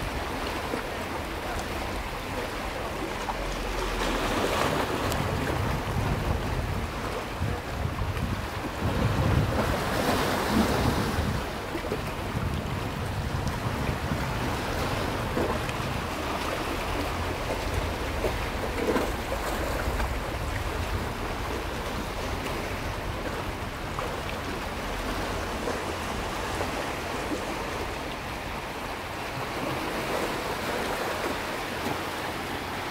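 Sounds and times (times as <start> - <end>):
wind rumble on microphone: 0.0 - 32.0
waves washing against rocky shore: 0.0 - 32.9.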